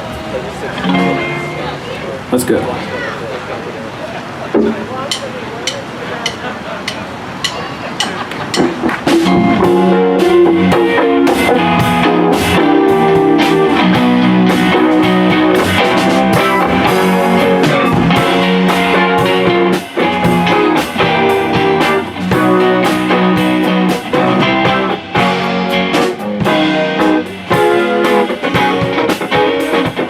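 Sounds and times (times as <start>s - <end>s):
guitar chords: 0.0s - 2.7s, 4.5s - 30.0s
drum kit beat: 4.6s - 30.0s.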